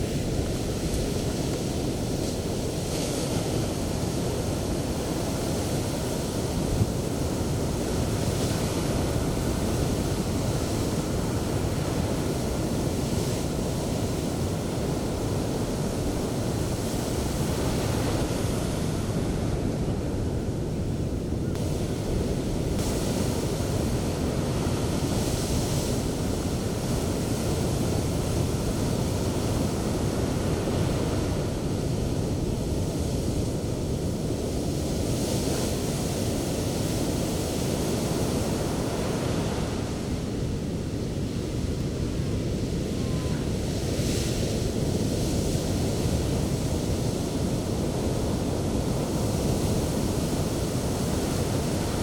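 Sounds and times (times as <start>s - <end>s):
low rumble of waves: 0.0s - 52.0s.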